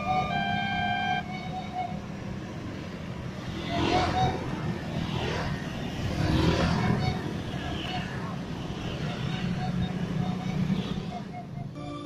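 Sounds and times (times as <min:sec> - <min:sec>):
motorcycle engines passing by: 0:00.0 - 0:12.0.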